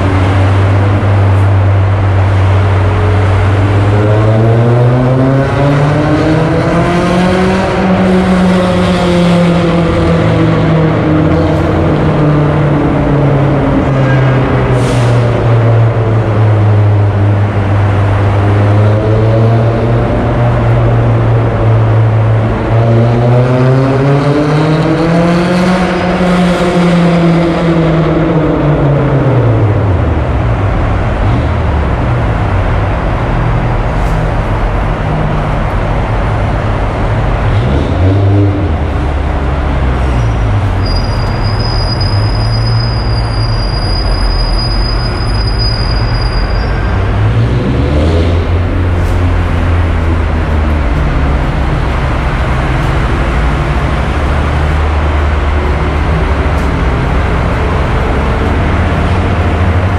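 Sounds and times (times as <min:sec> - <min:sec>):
car engine cruising and revving: 0:00.0 - 0:59.9
road noise: 0:00.0 - 0:59.9.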